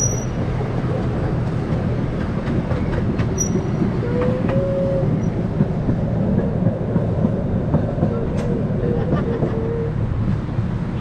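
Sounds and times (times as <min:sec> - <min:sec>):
wheels clicking over rails: 0:00.0 - 0:09.7
small train rumbling: 0:00.0 - 0:11.0.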